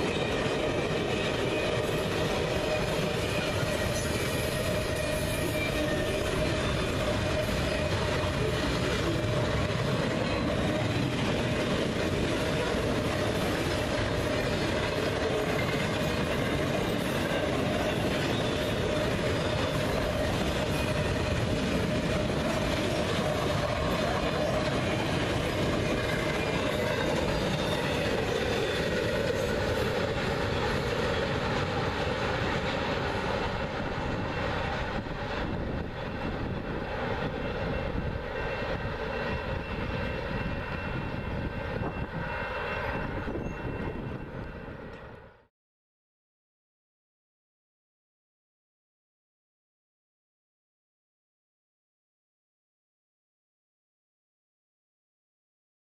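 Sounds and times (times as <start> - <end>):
train wheels rumbling on track: 0.0 - 45.4.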